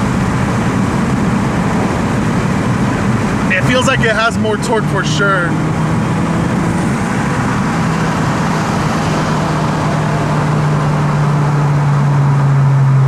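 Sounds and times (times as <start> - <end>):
car engine droning: 0.0 - 13.0
road and tyre noise: 0.0 - 13.0.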